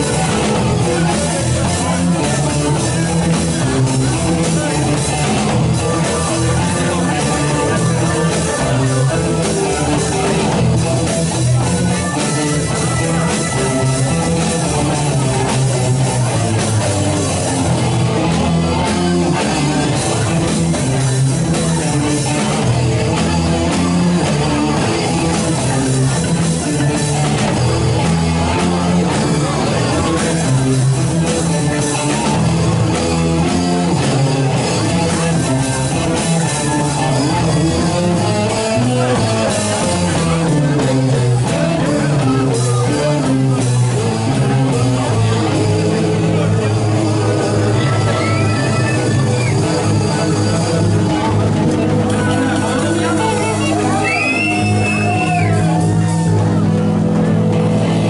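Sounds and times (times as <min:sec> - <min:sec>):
bass guitar: 0:00.0 - 0:58.0
drums: 0:00.0 - 0:58.0
electric guitar: 0:00.0 - 0:58.0
keyboards: 0:00.0 - 0:58.0.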